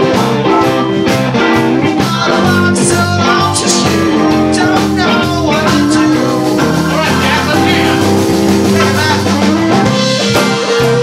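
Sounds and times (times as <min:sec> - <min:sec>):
bass guitar: 0:00.0 - 0:11.0
drums: 0:00.0 - 0:11.0
electric guitars: 0:00.0 - 0:11.0
keyboard: 0:00.0 - 0:11.0.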